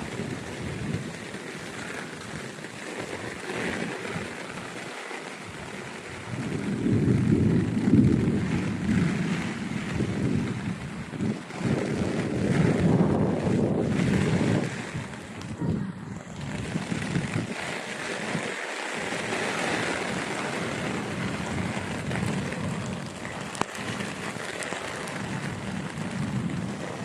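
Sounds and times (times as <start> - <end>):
heavy rain hissing: 0.0 - 27.0
wind buffeting microphone: 0.0 - 27.0.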